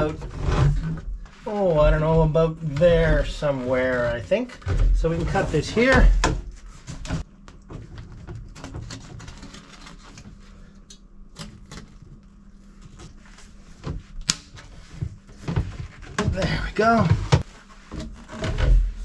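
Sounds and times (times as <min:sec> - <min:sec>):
plastic hose rustling and scraping: 0:00.0 - 0:10.9, 0:11.6 - 0:19.0.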